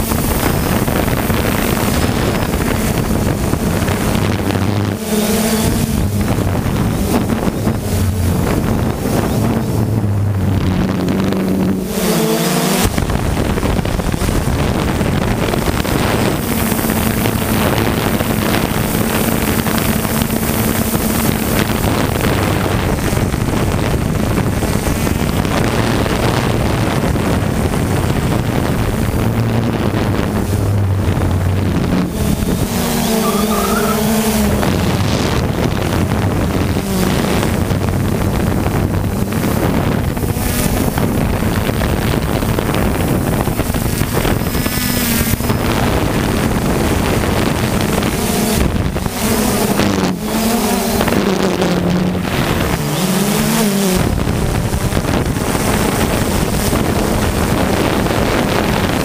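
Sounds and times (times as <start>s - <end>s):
quadcopter motors and propellers: 0.0s - 59.0s
wind rushing over microphone: 0.0s - 59.0s.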